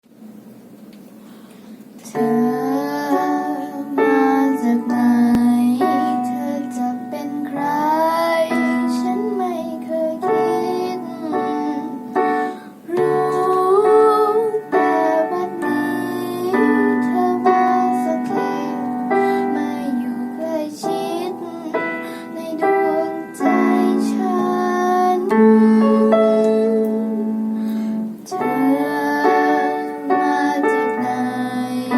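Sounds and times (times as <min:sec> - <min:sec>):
keyboard accompaniment: 0:02.0 - 0:31.9
person singing: 0:02.0 - 0:31.9.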